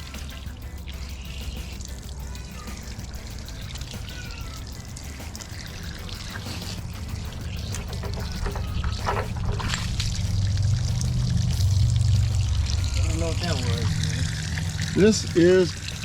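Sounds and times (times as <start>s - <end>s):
water pouring from drain valve: 0.0s - 16.0s.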